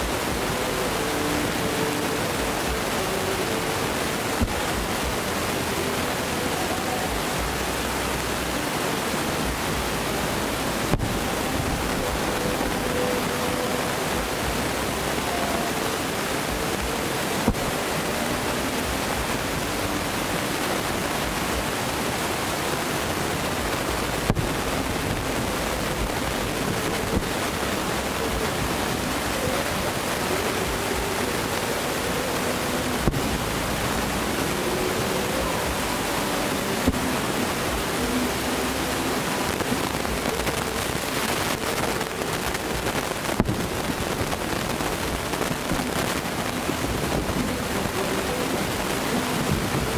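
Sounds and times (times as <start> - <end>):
steady rushing noise: 0.0 - 49.9.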